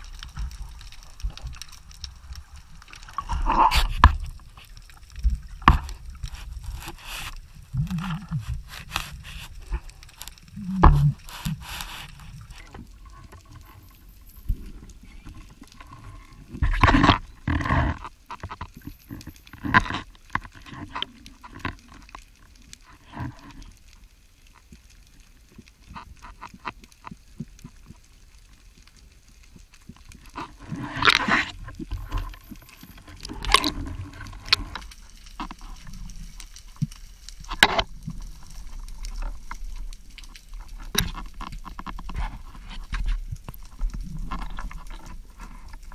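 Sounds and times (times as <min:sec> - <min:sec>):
rustling and knocking underwater: 0:00.0 - 0:45.9
underwater rumble: 0:00.0 - 0:45.9.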